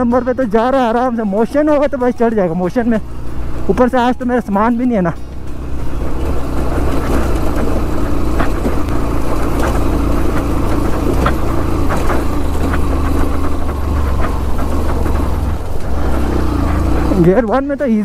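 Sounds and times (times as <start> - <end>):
motorcycle engine under load: 0.0 - 18.0
stones ticking under tyres: 0.0 - 18.0.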